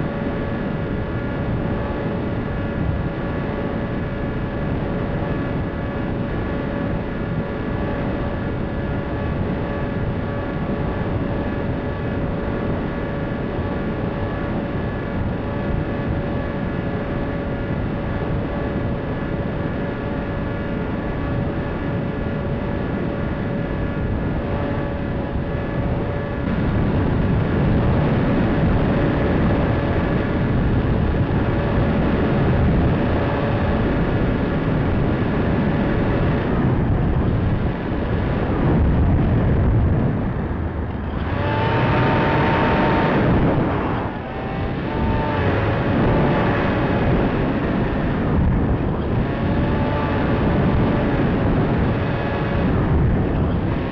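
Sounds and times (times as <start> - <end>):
electric motor and propeller whining: 0.0 - 53.9
higher-pitched whine: 0.0 - 53.9
wind rushing on microphone: 0.0 - 53.9.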